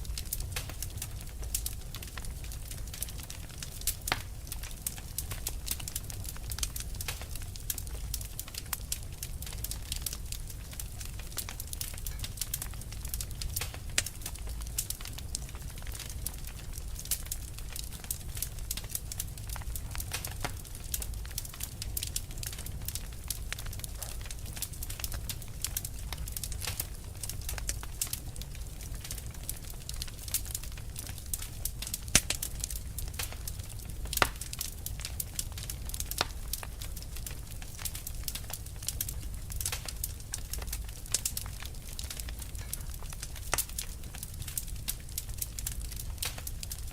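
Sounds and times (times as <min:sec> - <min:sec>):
loud fire pops: 0:00.0 - 0:46.9
wood fire crackling: 0:00.0 - 0:46.9.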